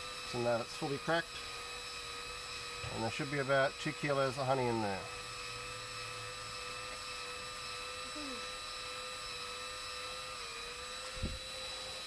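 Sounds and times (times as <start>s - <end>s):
cordless drill motor whine: 0.0s - 12.0s.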